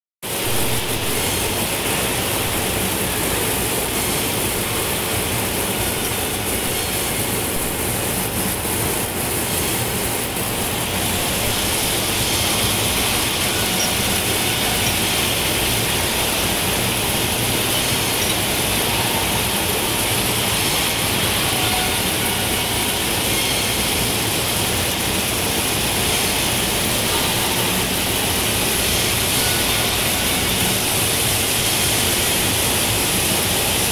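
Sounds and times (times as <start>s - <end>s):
coolant water spraying hiss: 0.3s - 33.9s.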